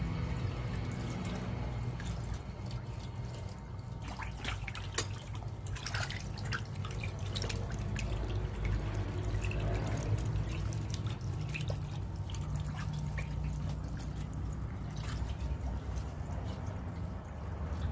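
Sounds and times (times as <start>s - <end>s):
water dripping and splashing: 0.0s - 17.9s.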